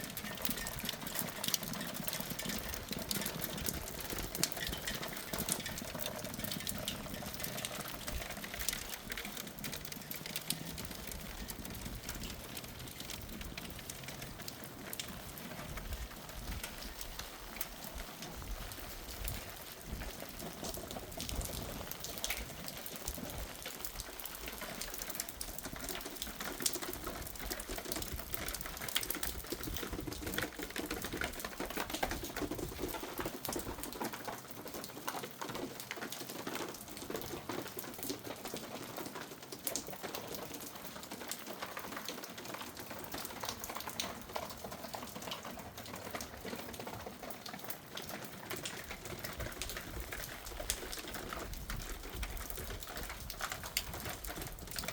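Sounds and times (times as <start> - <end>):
hailstones pelting down: 0.0 - 54.9.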